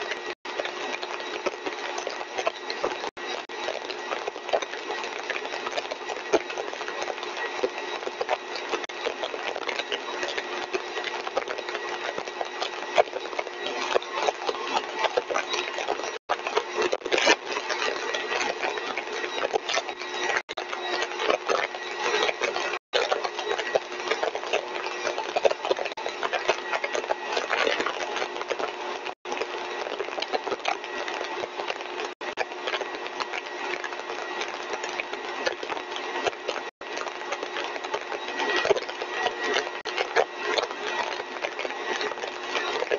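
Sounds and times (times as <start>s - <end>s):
compressor mechanical whine: 0.0s - 42.9s
crackling rattle: 0.0s - 42.9s.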